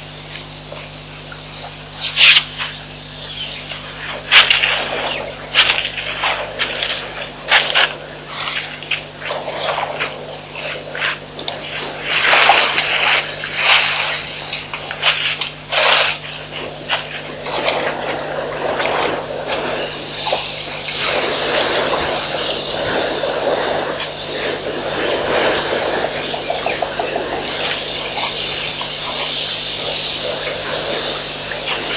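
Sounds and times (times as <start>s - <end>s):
water splashing: 0.0s - 31.9s.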